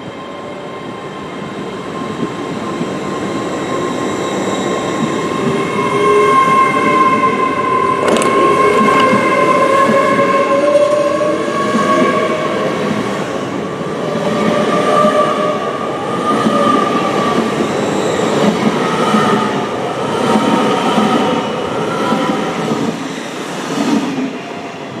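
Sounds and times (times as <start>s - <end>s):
train rushing past on rails: 0.0s - 25.0s.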